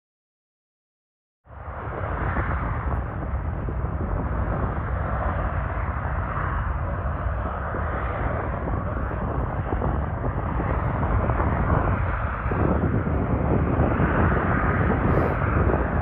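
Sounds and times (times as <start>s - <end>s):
jet engines running: 1.5s - 16.0s.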